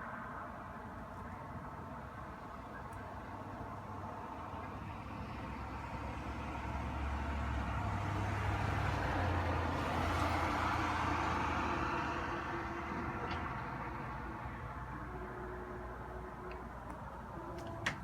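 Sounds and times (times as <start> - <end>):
vehicle passing on street: 0.0 - 18.0.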